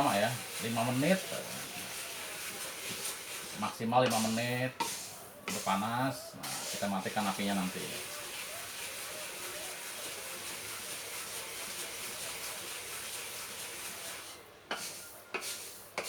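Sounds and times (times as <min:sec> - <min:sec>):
kernels dry-roasting in a hot pan: 0:00.0 - 0:16.0.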